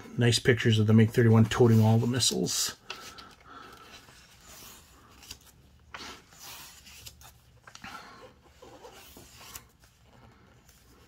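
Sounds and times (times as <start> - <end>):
book pages turning: 0.9 - 11.0.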